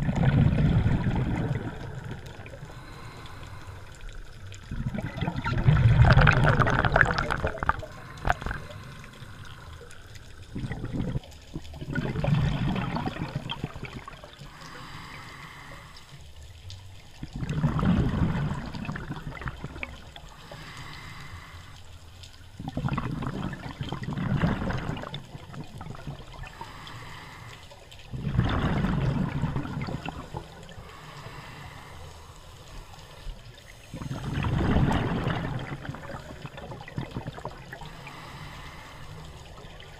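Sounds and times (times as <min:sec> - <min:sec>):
gurgling exhaled bubbles: 0:00.0 - 0:15.6, 0:17.1 - 0:21.2, 0:22.5 - 0:27.3, 0:27.9 - 0:31.9, 0:32.8 - 0:39.9.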